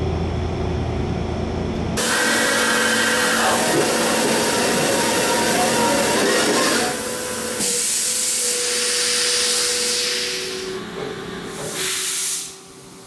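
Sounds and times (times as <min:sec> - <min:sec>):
faint steady machine whine: 0:00.0 - 0:13.0
machine hiss: 0:02.0 - 0:13.0.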